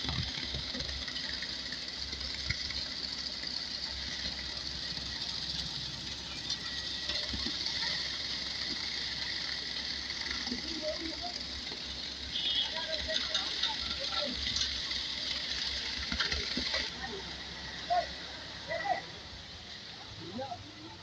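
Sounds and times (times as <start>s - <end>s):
concrete mixer engine droning: 0.0s - 21.0s.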